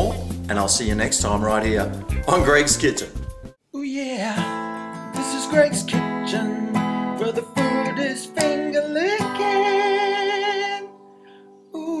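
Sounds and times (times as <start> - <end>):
acoustic guitar strumming: 0.0 - 3.6, 4.3 - 11.3
person singing: 0.0 - 11.0, 11.7 - 12.0.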